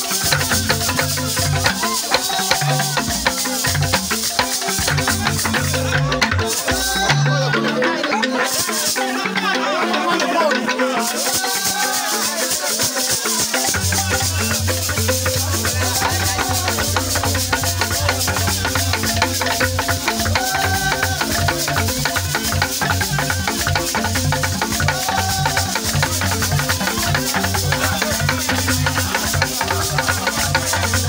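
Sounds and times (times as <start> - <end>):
deep bass xylophone bars: 0.0 - 12.7, 13.6 - 31.0.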